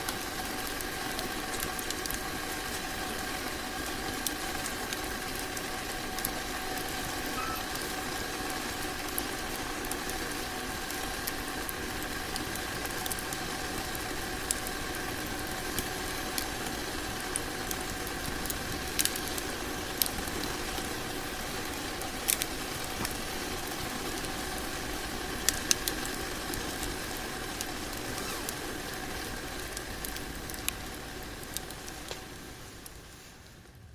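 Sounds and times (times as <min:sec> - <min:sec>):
fire crackles: 0:00.0 - 0:33.9
wood stove fire hissing: 0:00.0 - 0:33.9.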